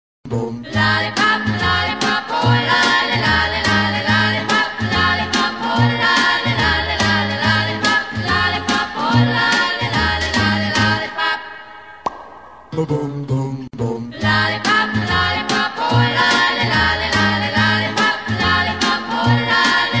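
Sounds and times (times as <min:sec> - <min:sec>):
upbeat music with singing: 0:00.2 - 0:20.0.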